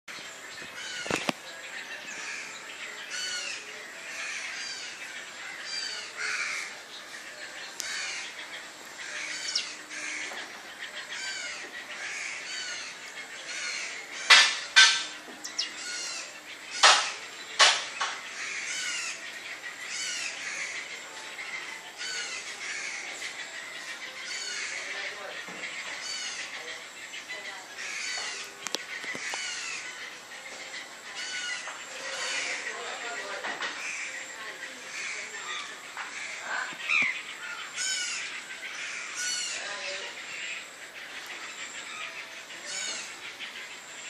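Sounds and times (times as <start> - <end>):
birds chirping: 0.0 - 44.0
loud harsh bird calls: 0.6 - 1.4, 2.0 - 44.0.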